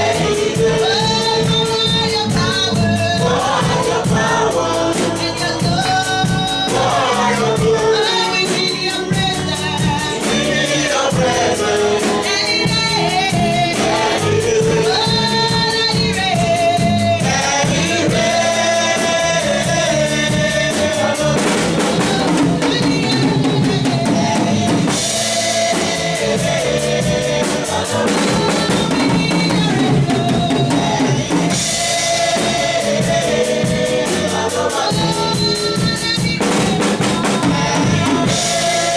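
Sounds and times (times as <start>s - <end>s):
drum kit beat: 0.0s - 38.9s
voices singing: 0.0s - 38.9s.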